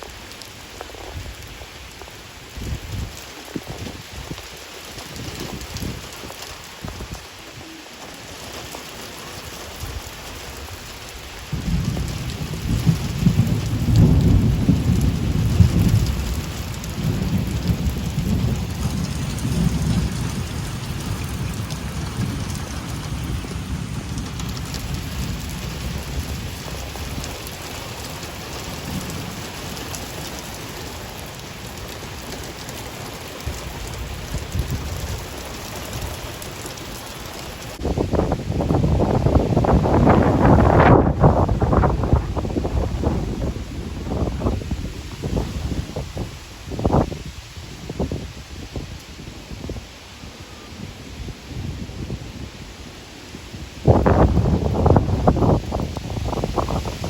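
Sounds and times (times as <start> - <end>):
steady rain falling: 0.0 - 57.0
thunder rumbling: 5.0 - 49.8, 50.5 - 57.0.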